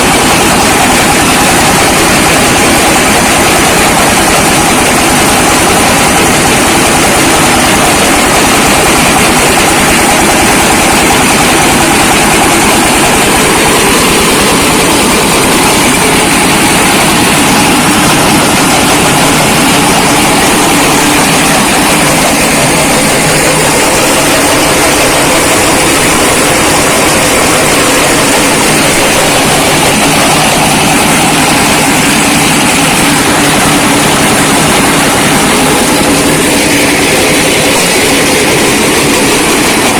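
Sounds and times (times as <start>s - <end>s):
brick-breaking machine running: 0.0s - 39.9s.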